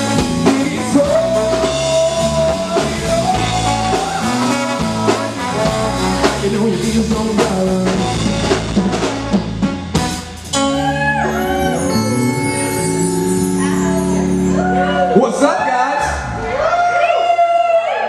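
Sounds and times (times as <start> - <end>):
trombone lead line: 0.0 - 14.6
live band playing: 0.0 - 17.0.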